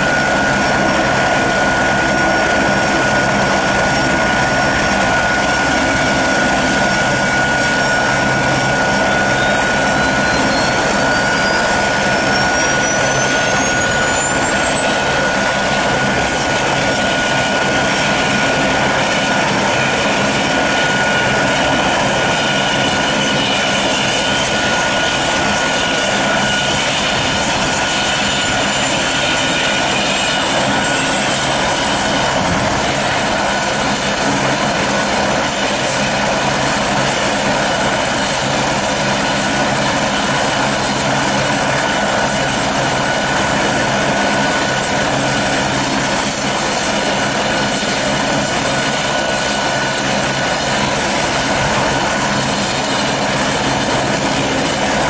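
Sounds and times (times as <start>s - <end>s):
helicopter engines whining: 0.0s - 55.0s
helicopter rotor turning: 0.0s - 55.0s.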